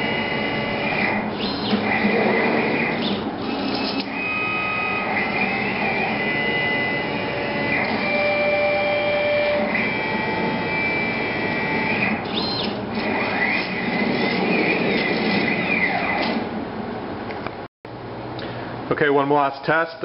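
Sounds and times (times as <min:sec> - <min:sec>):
drive motors whining: 0:00.0 - 0:16.6.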